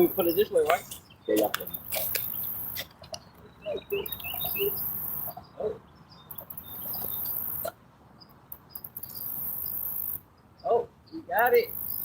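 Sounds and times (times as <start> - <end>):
insects buzzing: 0.0 - 5.5, 6.2 - 10.4.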